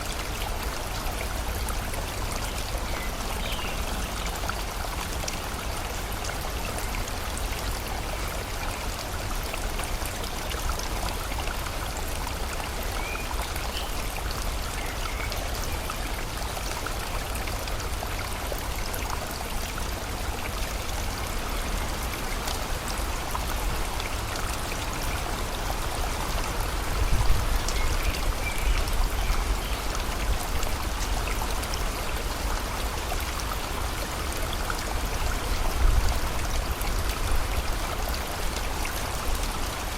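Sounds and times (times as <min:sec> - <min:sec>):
rain falling: 0:00.0 - 0:39.9
stream flowing: 0:00.0 - 0:39.9.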